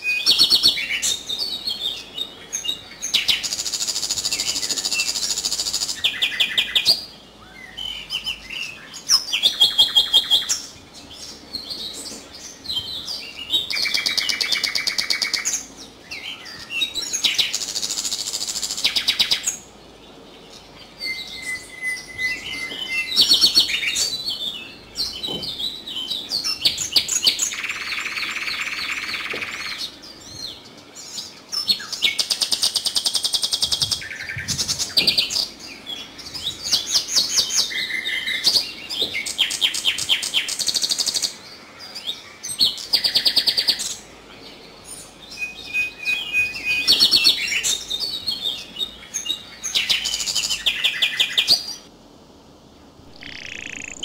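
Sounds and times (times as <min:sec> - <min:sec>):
nightingale singing: 0:00.0 - 0:51.9, 0:53.0 - 0:54.0.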